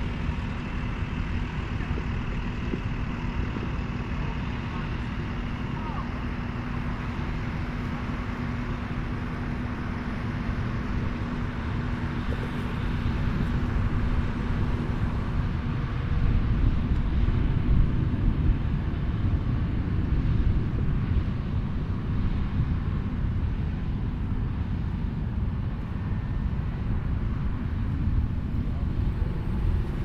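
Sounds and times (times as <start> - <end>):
combine harvester rumbling: 0.0 - 30.0.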